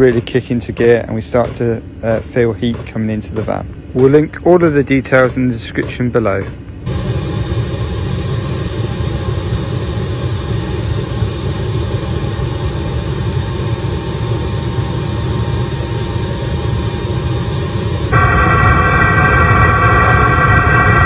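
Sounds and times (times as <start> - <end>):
faint hum: 0.0 - 21.0
heater blower rushing air: 0.0 - 21.0.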